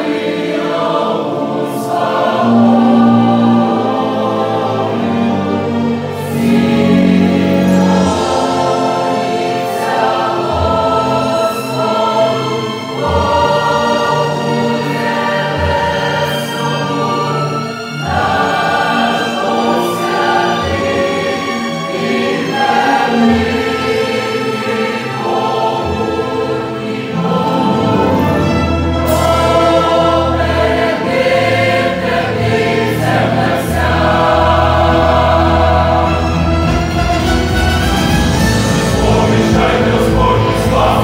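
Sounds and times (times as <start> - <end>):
church choir singing a hymn: 0.0 - 41.0.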